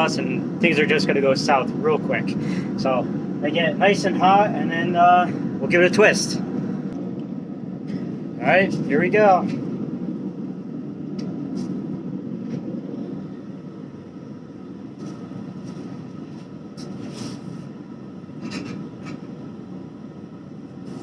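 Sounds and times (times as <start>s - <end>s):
forge rumbling: 0.0s - 17.1s.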